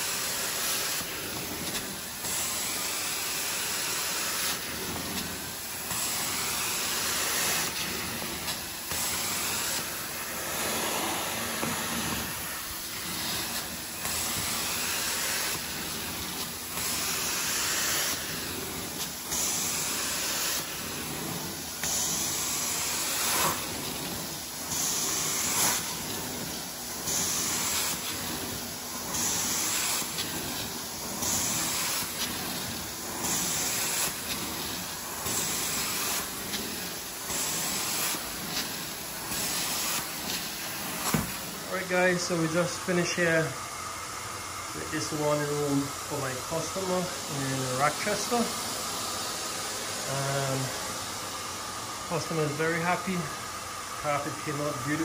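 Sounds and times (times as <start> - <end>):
carpet extraction wand hissing: 0.0 - 55.0.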